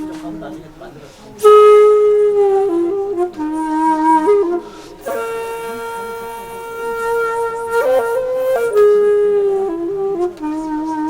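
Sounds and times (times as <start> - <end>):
slow flute melody: 0.0 - 11.0.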